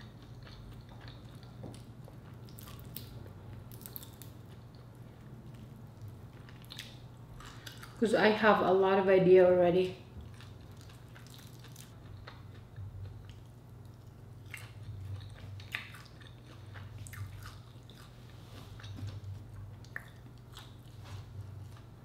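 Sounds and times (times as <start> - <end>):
chewing with mouth smacks: 0.0 - 8.0, 10.2 - 21.9
steady low hum: 0.0 - 22.0.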